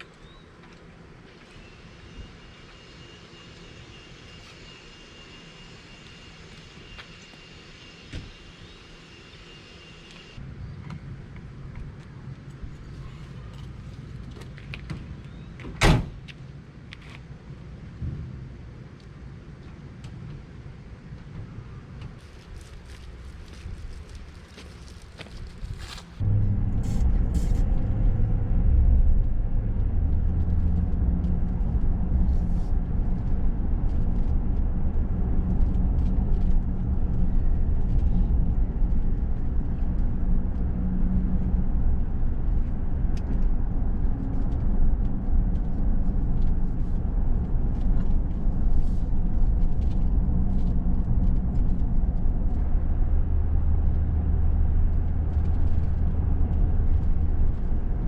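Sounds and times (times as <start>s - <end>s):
vehicle engine and road rumble: 0.0s - 58.0s.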